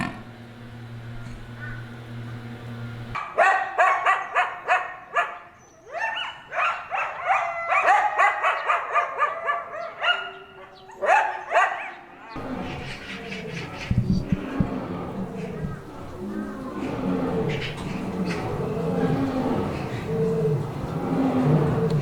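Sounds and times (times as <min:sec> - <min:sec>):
animals yelping: 0:01.4 - 0:22.0.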